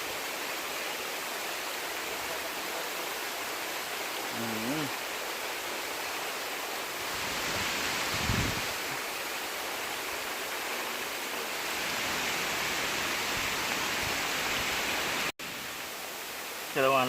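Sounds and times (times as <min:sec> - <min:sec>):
rain falling: 0:00.0 - 0:17.0
river and waterfall rushing: 0:00.0 - 0:17.0.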